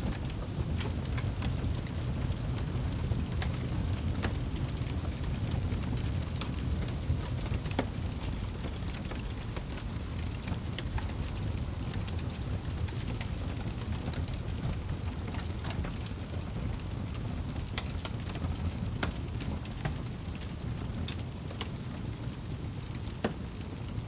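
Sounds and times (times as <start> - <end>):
burning logs popping: 0.0 - 24.0
low rumble of flame: 0.0 - 24.0.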